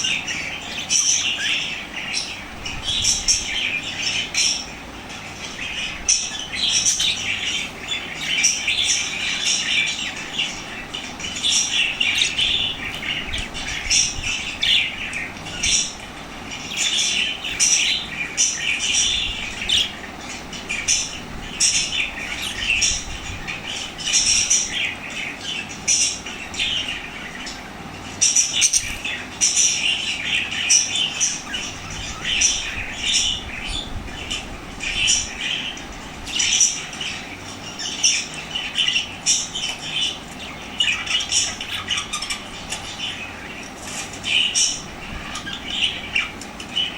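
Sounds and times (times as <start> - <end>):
parrots chirping and squawking: 0.0 - 46.9.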